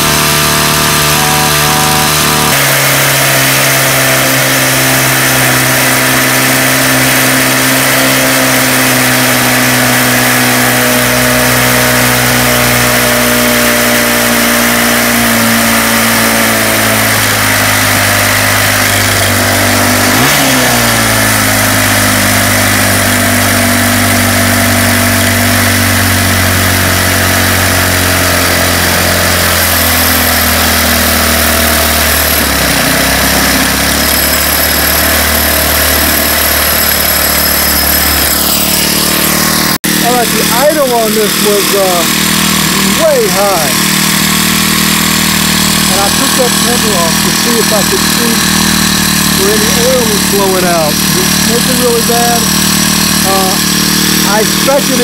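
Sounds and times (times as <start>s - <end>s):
string trimmer engine idling: 0.0s - 55.0s.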